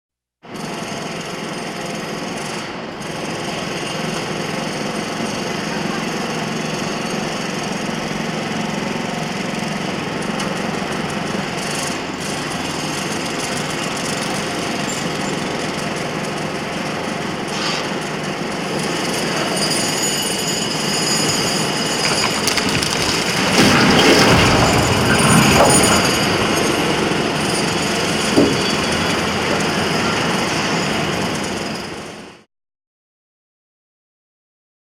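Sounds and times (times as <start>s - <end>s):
machinery and power tools din: 0.5s - 32.4s.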